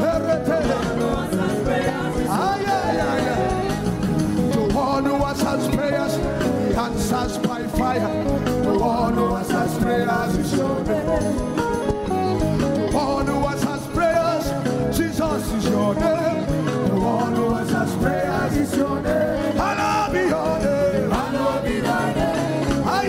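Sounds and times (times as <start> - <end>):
people singing worship music: 0.0 - 12.0, 12.8 - 23.0
instrumental accompaniment: 0.0 - 23.0.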